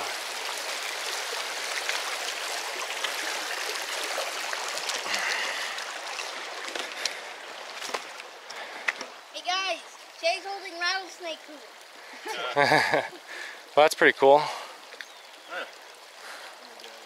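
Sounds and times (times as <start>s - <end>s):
creek water running over rocks: 0.0s - 17.0s.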